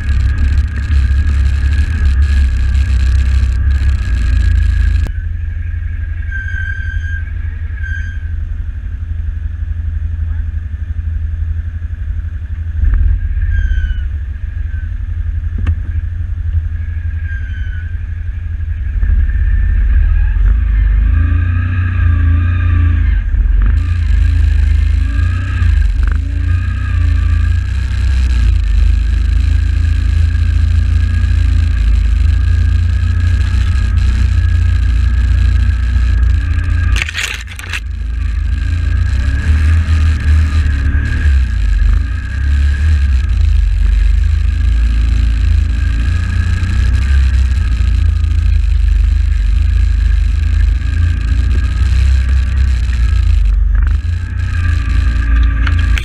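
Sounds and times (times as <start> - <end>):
atv engine running under load: 0.0 - 6.3, 7.2 - 56.0
rush of noise: 0.0 - 10.2, 12.2 - 56.0.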